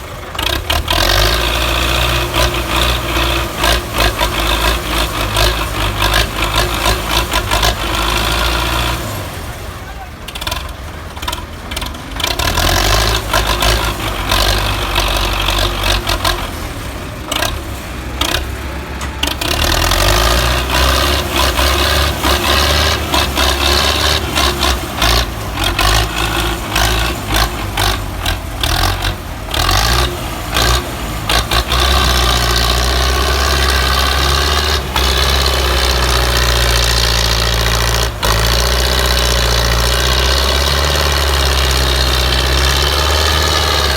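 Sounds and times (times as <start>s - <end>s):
tractor diesel engine: 0.0s - 43.9s.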